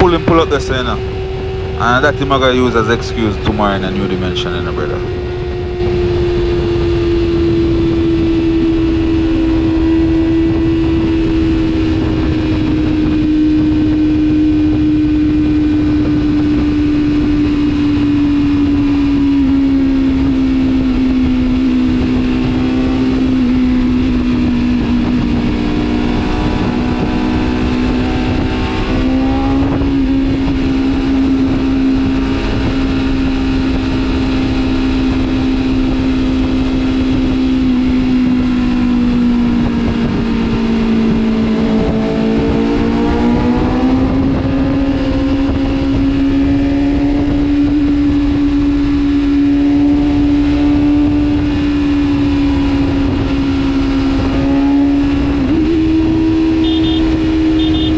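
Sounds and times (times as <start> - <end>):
motorcycle engine at high revs: 0.0 - 57.9
wind rush: 0.0 - 57.9.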